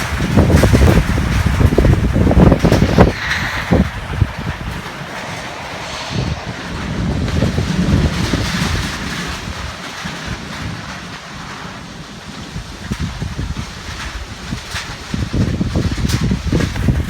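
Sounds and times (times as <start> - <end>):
wind gusting on microphone: 0.0 - 17.0.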